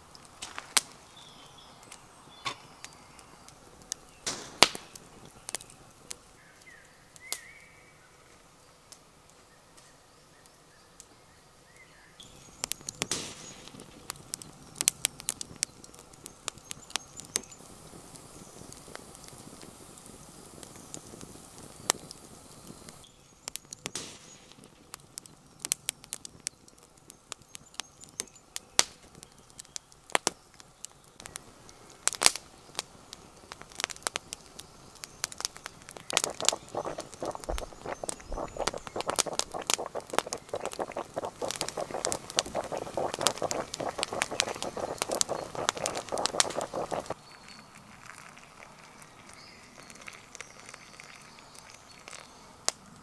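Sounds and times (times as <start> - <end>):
campfire crackling and popping: 0.0 - 7.5, 12.2 - 53.0.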